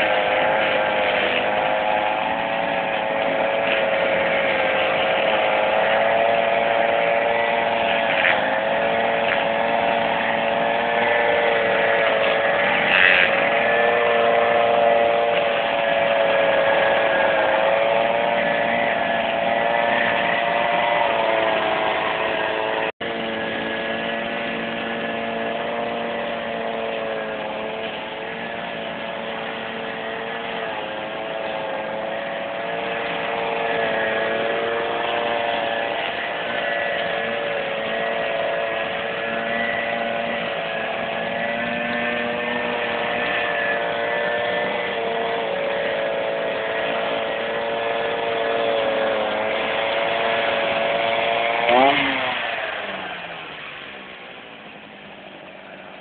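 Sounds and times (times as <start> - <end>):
brush cutter engine cutting grass: 0.0 - 56.0.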